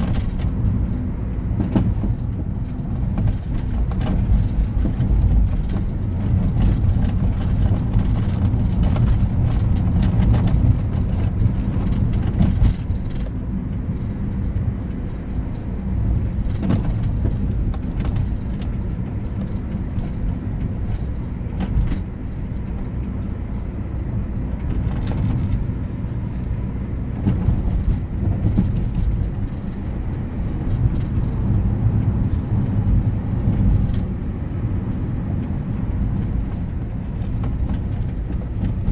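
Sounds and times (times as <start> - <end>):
car engine and tyre drone: 0.0 - 38.9.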